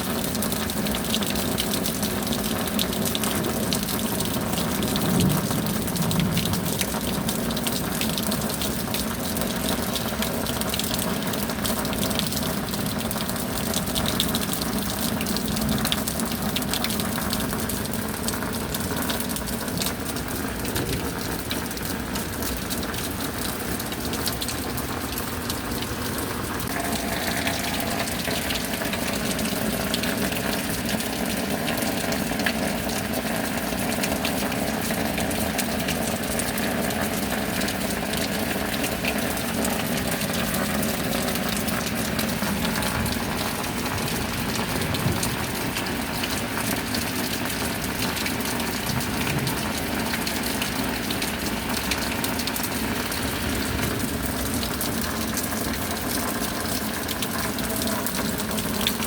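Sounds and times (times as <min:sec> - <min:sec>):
steady rain splashing: 0:00.0 - 0:59.0.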